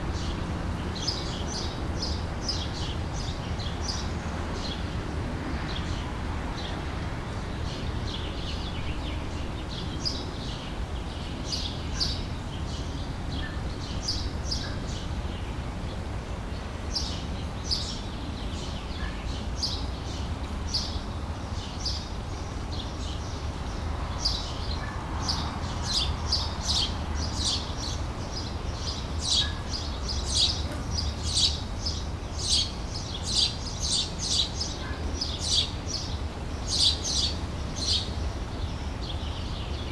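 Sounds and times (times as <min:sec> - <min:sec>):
low background noise: 0:00.0 - 0:39.9
songbirds chirping: 0:00.0 - 0:39.9.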